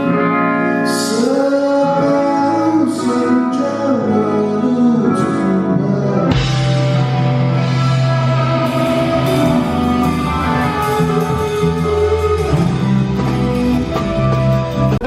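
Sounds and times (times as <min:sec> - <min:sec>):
rock song with guitar: 0:00.0 - 0:15.0.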